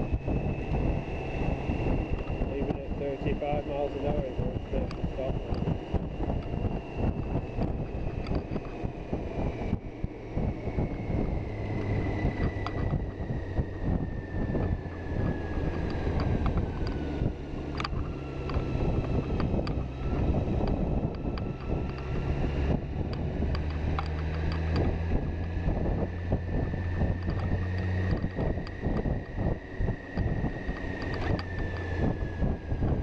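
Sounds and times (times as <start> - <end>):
high whine falling in pitch: 0.0 - 33.0
motorcycle engine hum: 0.0 - 33.0
wind buffeting microphone: 0.0 - 33.0.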